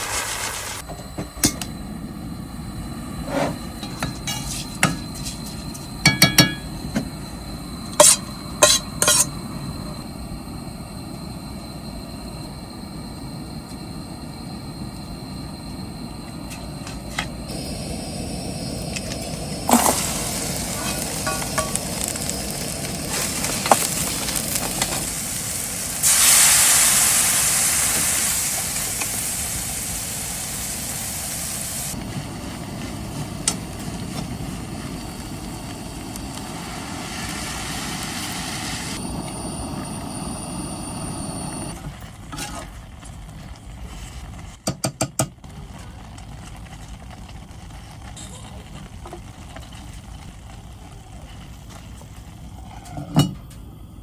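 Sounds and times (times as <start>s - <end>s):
food sizzling in a pan: 0.0s - 1.7s, 3.2s - 10.0s, 16.5s - 44.8s, 45.5s - 53.8s.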